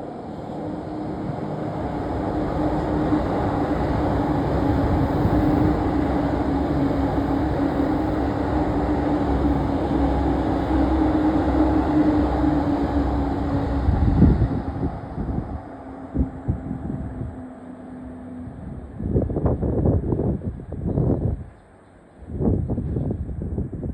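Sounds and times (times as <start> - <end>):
train wheels rumbling on rail: 0.0 - 23.9.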